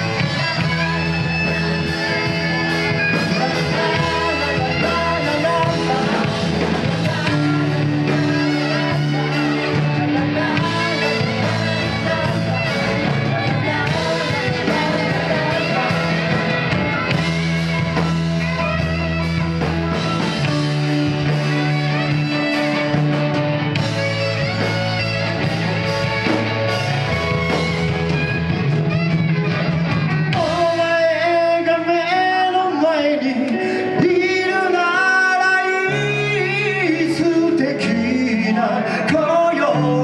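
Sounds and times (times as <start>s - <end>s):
person singing: 0.0s - 28.8s, 29.5s - 40.0s
live rock band playing: 0.0s - 40.0s.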